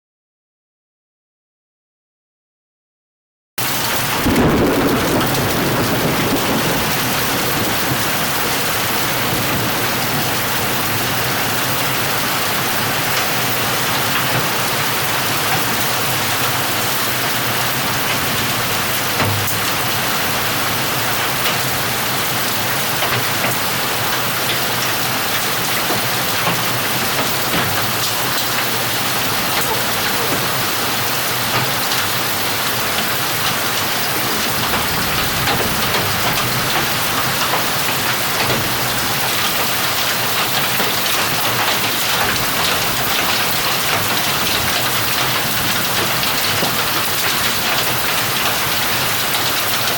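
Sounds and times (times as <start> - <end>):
heavy rain pouring: 3.6 - 49.9.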